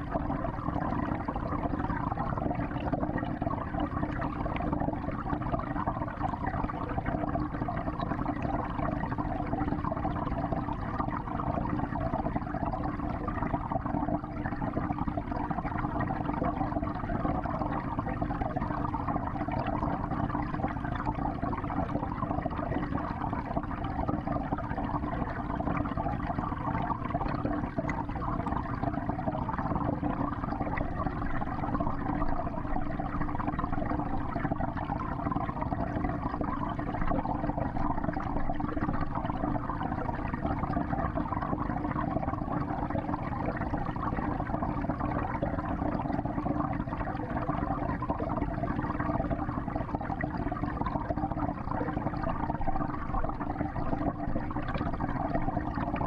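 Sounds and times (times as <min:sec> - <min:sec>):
water rushing in an aquarium: 0:00.0 - 0:56.0.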